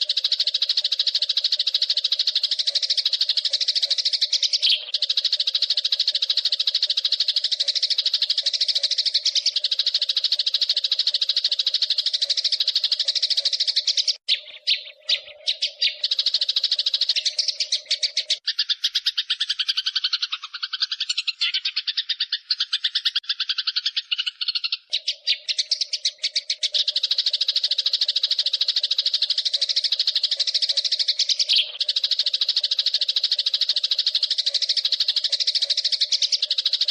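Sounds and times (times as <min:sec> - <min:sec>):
sparrows chattering: 0:00.0 - 0:36.9.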